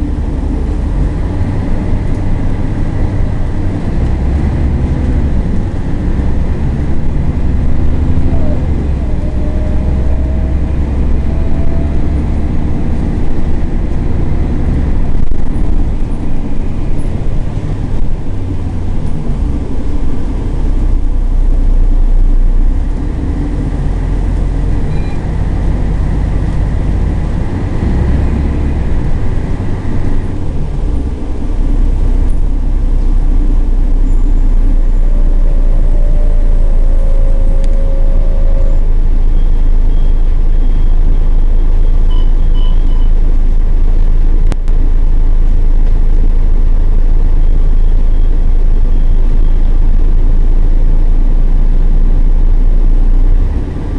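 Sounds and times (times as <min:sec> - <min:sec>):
bus diesel engine rumbling: 0:00.0 - 0:53.9.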